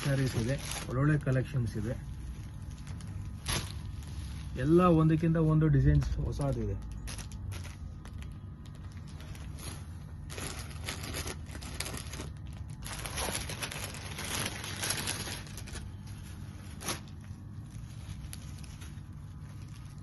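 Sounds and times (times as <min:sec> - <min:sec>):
fabric rustling and crinkling: 0:00.0 - 0:20.0
low steady hum: 0:00.0 - 0:20.0.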